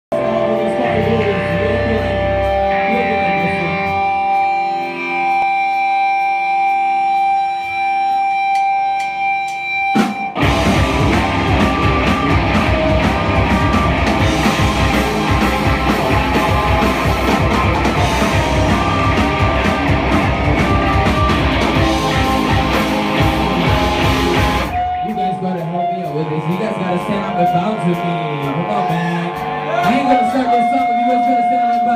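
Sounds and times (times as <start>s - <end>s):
bass guitar: 0.1s - 31.9s
drums: 0.1s - 31.9s
electric guitars: 0.1s - 31.9s.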